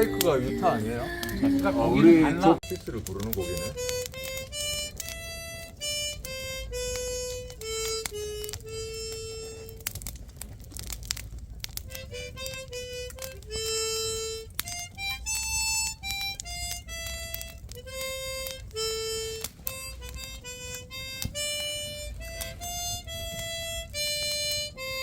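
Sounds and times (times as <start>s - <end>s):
harmonica melody: 0.0s - 10.2s, 11.7s - 25.0s.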